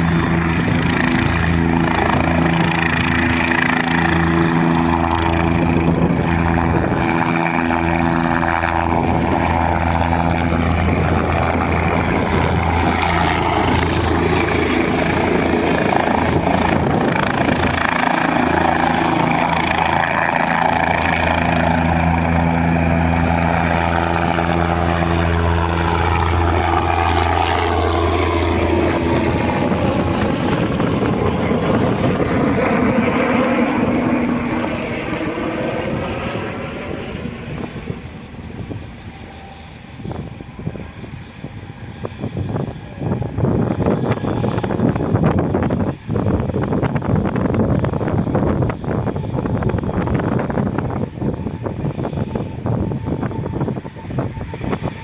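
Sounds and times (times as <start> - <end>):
helicopter rotor beat: 0.0 - 55.0
turbine whine: 0.0 - 55.0.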